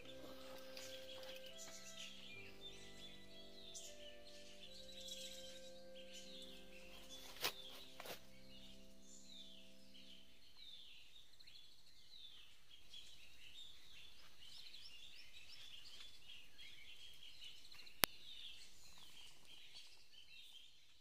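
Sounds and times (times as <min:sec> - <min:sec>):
forest birds chirping: 0:00.0 - 0:21.0.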